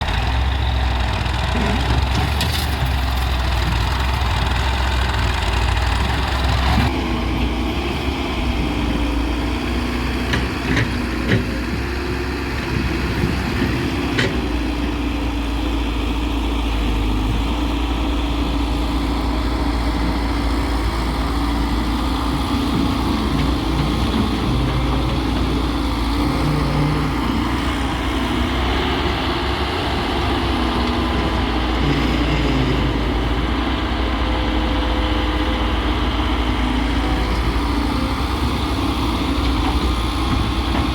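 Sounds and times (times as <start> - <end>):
excavator diesel engine working: 0.0 - 40.9.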